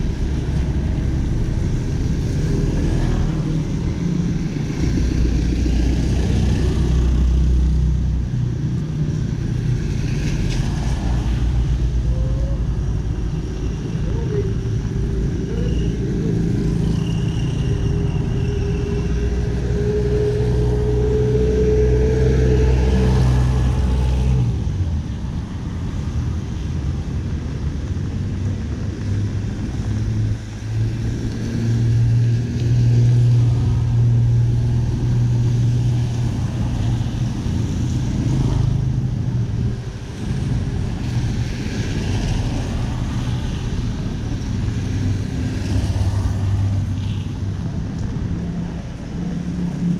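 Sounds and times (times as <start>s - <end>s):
traffic engines humming: 0.0s - 49.9s.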